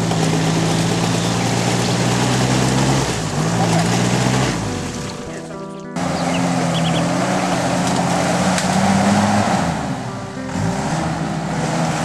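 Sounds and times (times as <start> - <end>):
engine running hard under load: 0.0 - 12.0
background music: 0.3 - 12.0.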